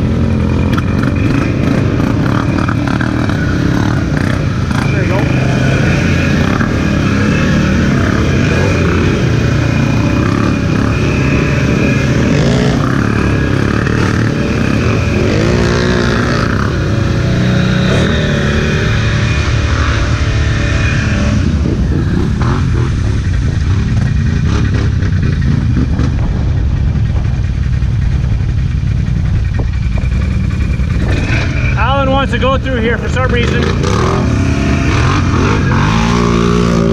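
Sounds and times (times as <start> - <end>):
quad engines revving: 0.0 - 36.9.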